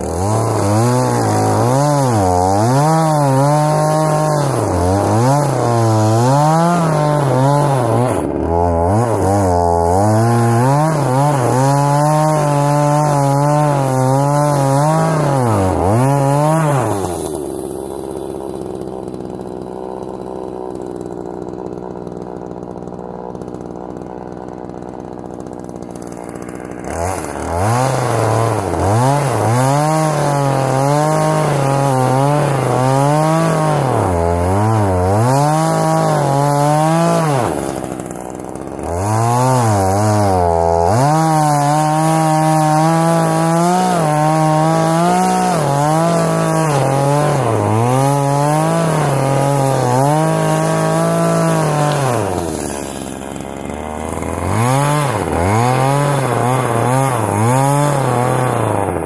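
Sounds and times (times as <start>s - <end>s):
chainsaw cutting a stump: 0.0s - 59.0s.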